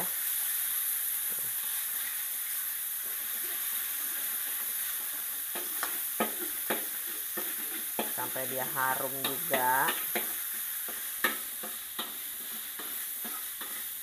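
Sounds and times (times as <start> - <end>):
meat sizzling in oil: 0.0 - 14.0
spatula scraping wok: 0.0 - 14.0.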